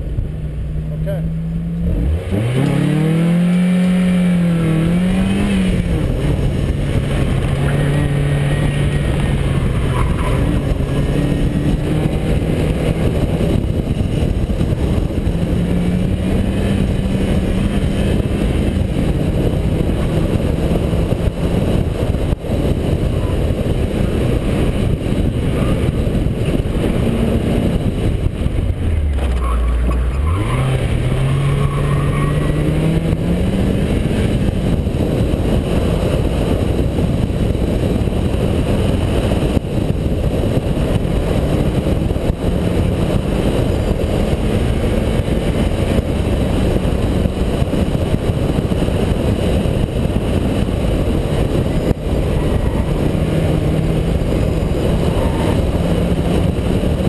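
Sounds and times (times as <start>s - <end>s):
car engine revving: 0.0s - 57.0s
tyre and wind noise: 0.0s - 57.0s.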